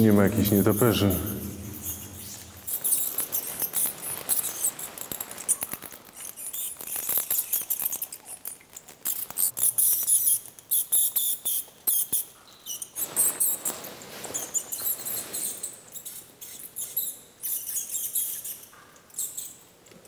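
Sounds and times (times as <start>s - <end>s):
bats squeaking and chittering: 0.0s - 19.7s.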